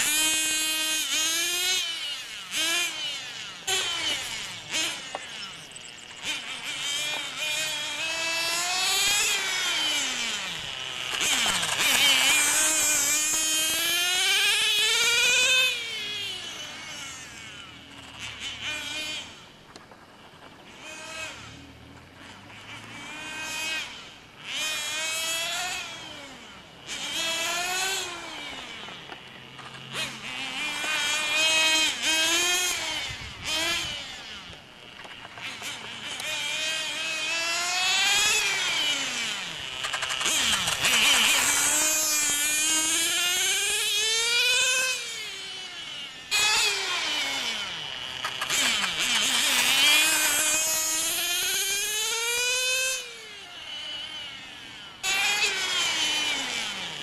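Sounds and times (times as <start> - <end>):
small engines buzzing high: 0.0 - 57.0.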